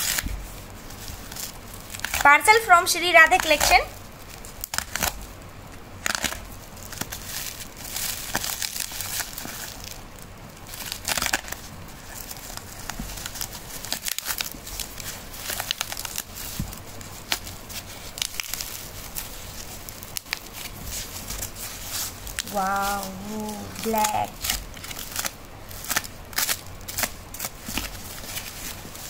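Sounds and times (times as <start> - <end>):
packaging crinkling and tearing: 0.0 - 29.0.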